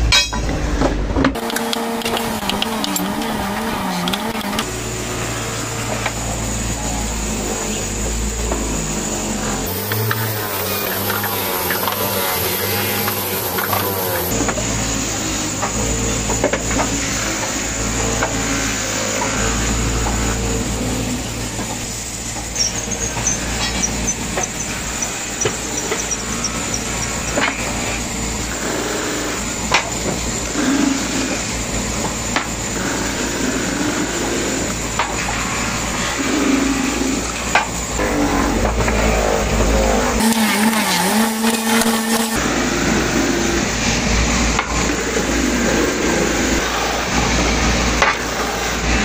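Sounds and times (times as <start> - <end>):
sander motor hum: 1.4 - 49.0
wood sanding hiss: 1.6 - 37.6, 40.2 - 49.0.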